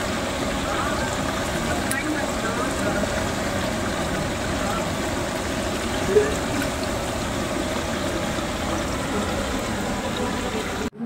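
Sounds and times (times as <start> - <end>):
chicken sizzling in hot oil: 0.0 - 10.9.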